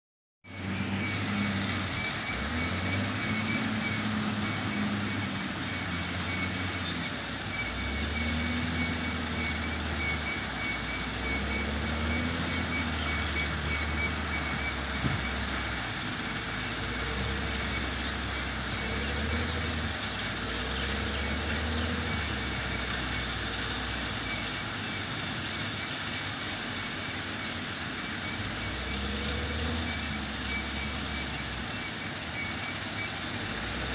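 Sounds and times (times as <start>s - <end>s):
diesel engine revving: 0.4s - 33.9s
high-pitched whine with ticking: 0.5s - 33.9s.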